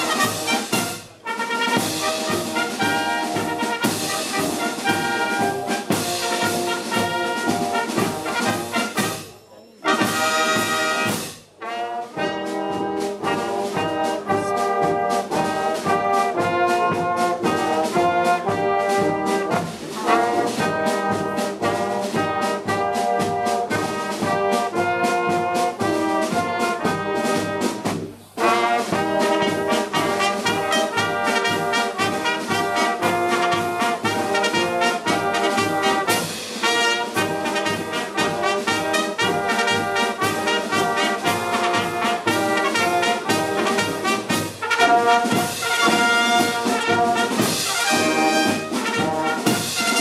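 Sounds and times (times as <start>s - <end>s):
brass band playing chords: 0.0s - 50.0s.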